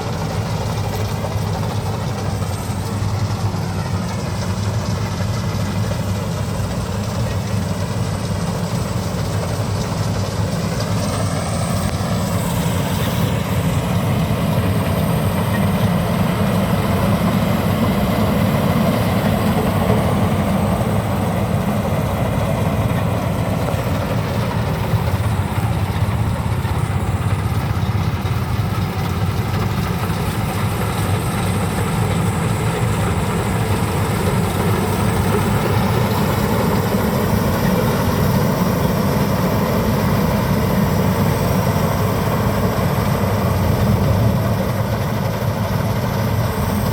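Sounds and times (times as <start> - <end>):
combine harvester engine droning: 0.0 - 46.9.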